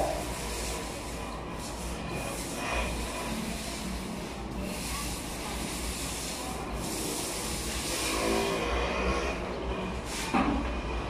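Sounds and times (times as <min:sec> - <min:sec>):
paint roller rubbing hiss: 0:00.0 - 0:08.9, 0:10.0 - 0:10.4
paint roller scrape: 0:00.0 - 0:10.4.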